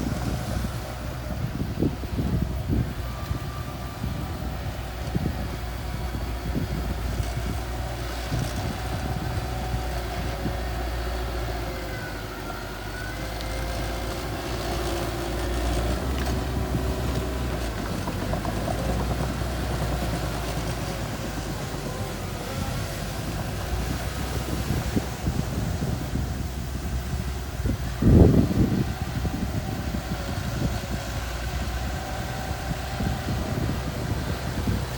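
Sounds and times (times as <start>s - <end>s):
bulldozer engine under load: 0.0s - 34.9s.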